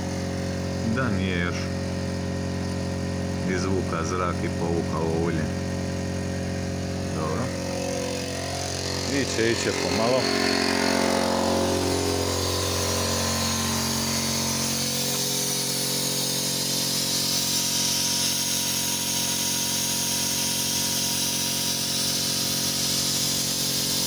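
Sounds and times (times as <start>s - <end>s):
compressed air hissing: 0.0s - 24.0s
mechanical hum: 0.0s - 24.0s.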